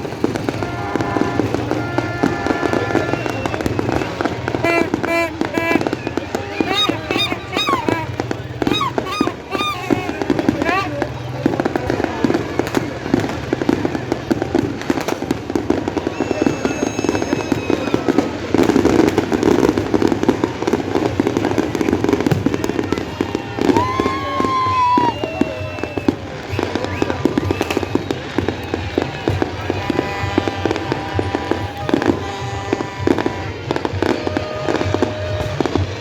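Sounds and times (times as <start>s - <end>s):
fireworks crackling and popping: 0.0s - 36.0s
fireworks whistling: 0.0s - 36.0s.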